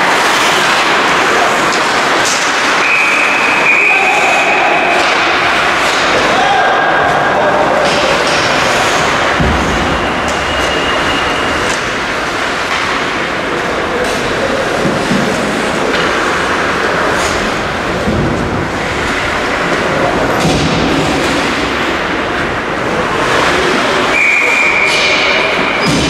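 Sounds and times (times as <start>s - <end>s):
hockey sticks and puck clicking: 0.0s - 9.6s, 10.2s - 21.8s
skates scraping on ice: 0.0s - 22.0s.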